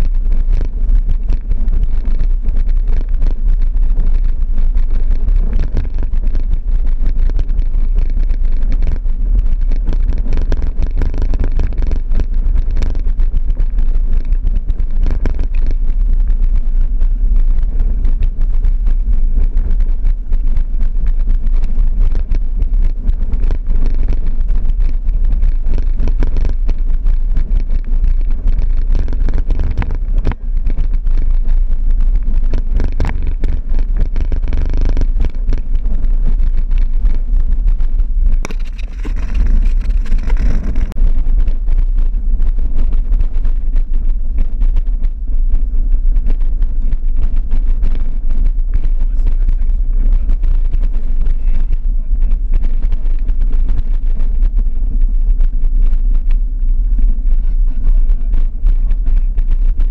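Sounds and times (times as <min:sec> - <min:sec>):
vehicle rumbling on dirt track: 0:00.0 - 0:59.9
wind noise on microphone: 0:00.0 - 0:59.9.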